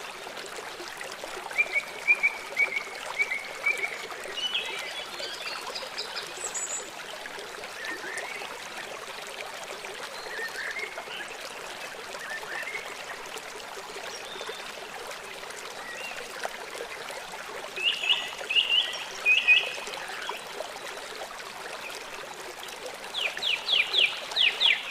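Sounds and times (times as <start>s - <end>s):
small stream rushing: 0.0s - 24.9s.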